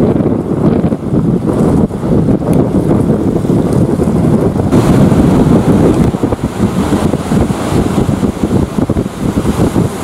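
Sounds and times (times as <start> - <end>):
helicopter rotor chopping: 0.0 - 10.0
wind buffeting microphone: 0.0 - 10.0.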